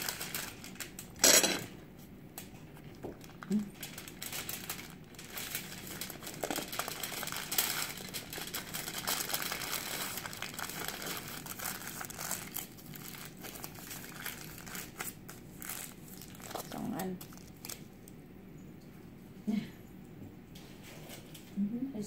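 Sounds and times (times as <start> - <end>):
aluminium foil crinkling: 0.0 - 18.2.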